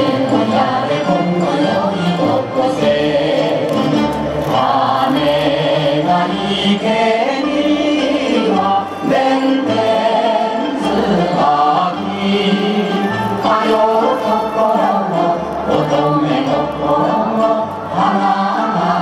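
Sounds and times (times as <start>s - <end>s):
group singing folk song: 0.0s - 19.0s.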